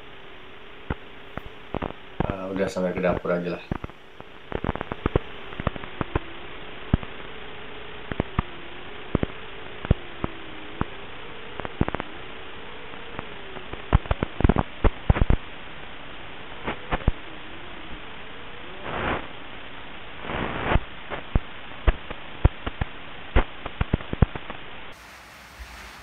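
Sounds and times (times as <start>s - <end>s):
crackling clicks: 0.0s - 25.0s
faint wavering hum: 0.0s - 26.0s
radio static hiss: 0.0s - 26.0s.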